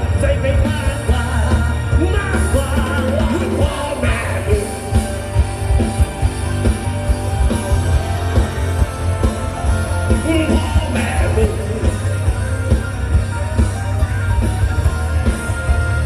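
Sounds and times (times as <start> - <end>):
heavy bass: 0.0 - 16.0
live band with singing: 0.0 - 16.0
steady drum beat: 0.0 - 16.0.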